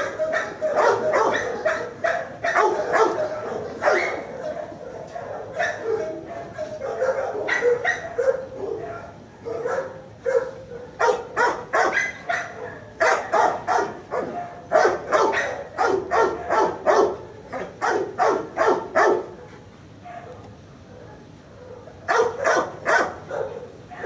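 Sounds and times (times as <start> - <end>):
dogs barking and yelping: 0.0 - 24.0.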